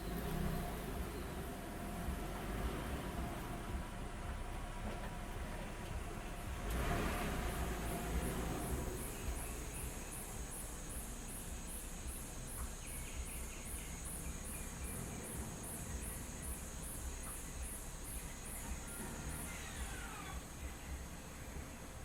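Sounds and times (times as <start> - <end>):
low rumble: 0.0 - 21.6
crickets chirping: 0.0 - 22.0.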